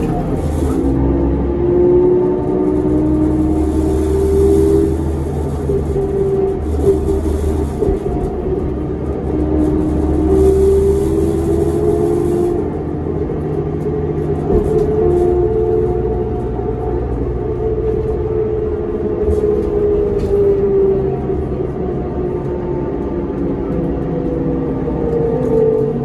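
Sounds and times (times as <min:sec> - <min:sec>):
bus engine rumble: 0:00.0 - 0:26.0
drivetrain whine: 0:00.0 - 0:26.0.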